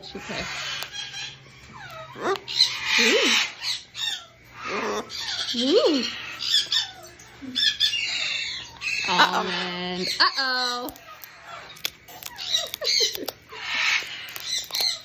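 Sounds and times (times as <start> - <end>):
macaw squawking: 0.0 - 15.0.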